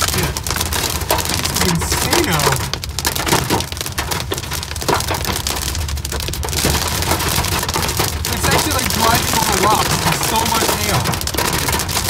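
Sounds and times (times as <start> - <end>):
hail and rain on car roof: 0.0 - 12.0
low road rumble: 0.0 - 12.0.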